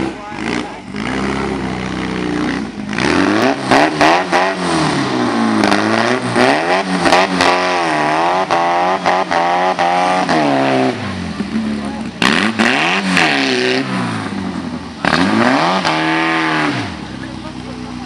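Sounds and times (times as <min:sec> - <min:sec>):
buggy engine revving: 0:00.0 - 0:18.0.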